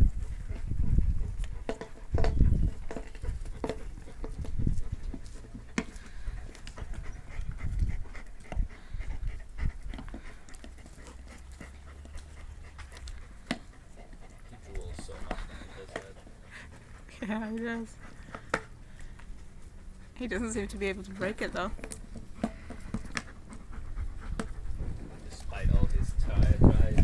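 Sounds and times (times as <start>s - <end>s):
dog gnawing rubber tire: 0.0s - 27.0s
dog panting: 0.0s - 27.0s.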